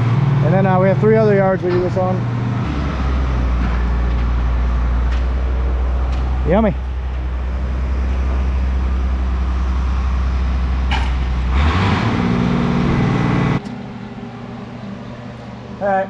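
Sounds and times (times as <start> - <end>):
tractor engine running: 0.0 - 15.8.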